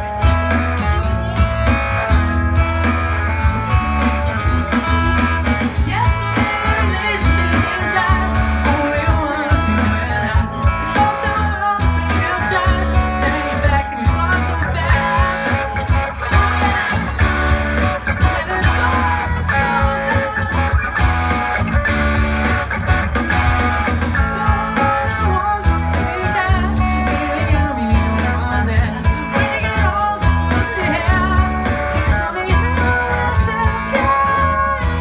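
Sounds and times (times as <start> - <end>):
live pop-rock band playing: 0.0 - 35.0.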